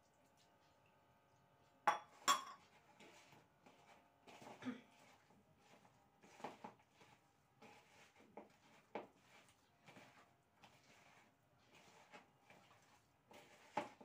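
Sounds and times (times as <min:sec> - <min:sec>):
hand mixing wet batter: 0:00.0 - 0:14.0.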